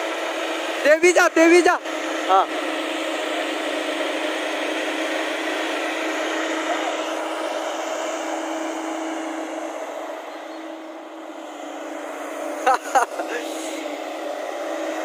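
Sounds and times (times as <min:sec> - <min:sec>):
excavator diesel engine and hydraulics: 0:00.0 - 0:15.0.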